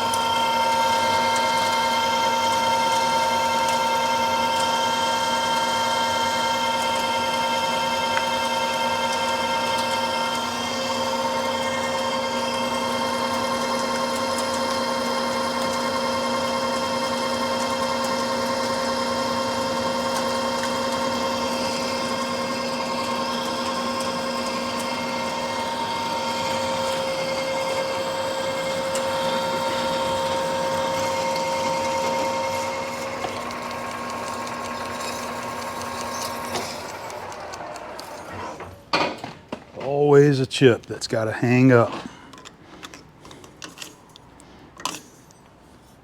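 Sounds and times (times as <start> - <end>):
lathe drive whining: 0.0 - 38.9.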